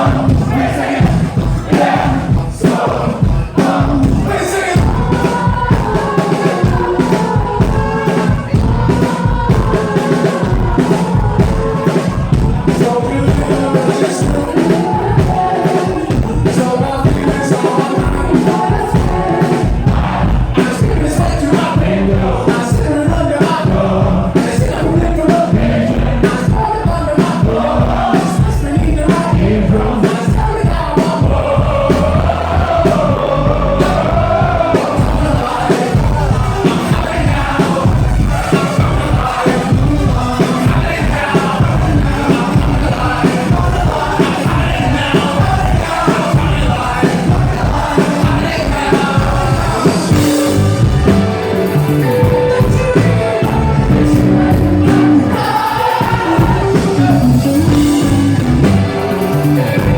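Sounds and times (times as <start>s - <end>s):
crowd noise: 0.0s - 59.9s
driving drum beat: 0.0s - 59.9s
person singing lead vocals: 0.0s - 59.9s
rock band playing live: 0.0s - 59.9s.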